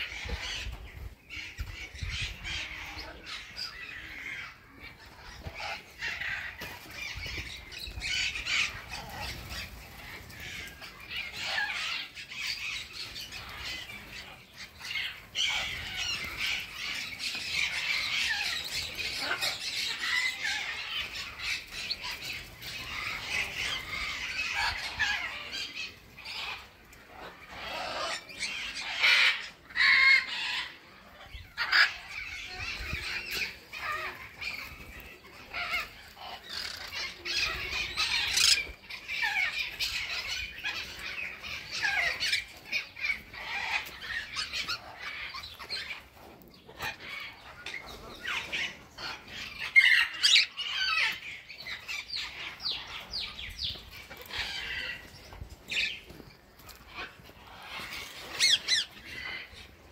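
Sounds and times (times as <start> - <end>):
parrots squawking and chattering: 0.0 - 59.9.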